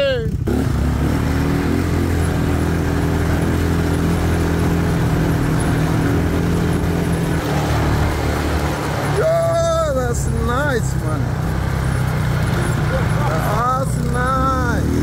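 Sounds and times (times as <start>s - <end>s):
quad bike engine droning: 0.0s - 15.0s.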